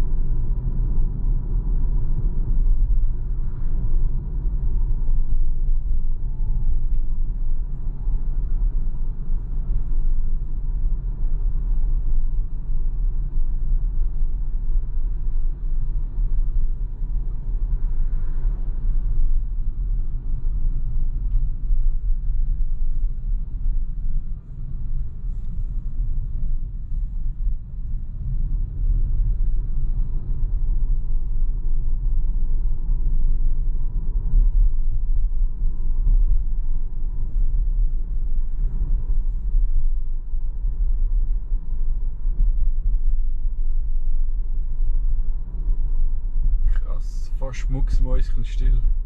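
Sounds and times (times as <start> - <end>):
road and tyre rumble: 0.0 - 49.0.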